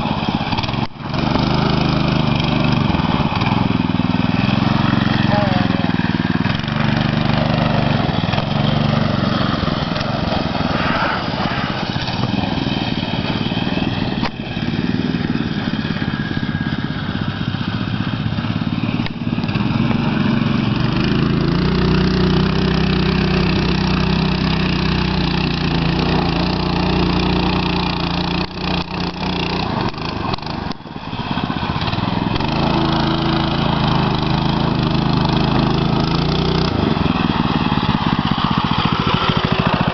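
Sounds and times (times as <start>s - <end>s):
minibike engine revving under load: 0.0s - 39.9s.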